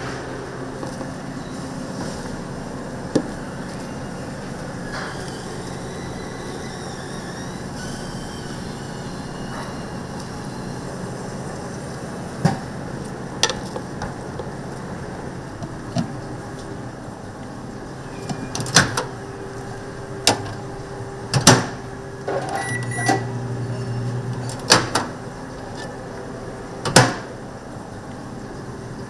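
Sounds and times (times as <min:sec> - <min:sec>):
low hum of kitchen: 0:00.0 - 0:29.0.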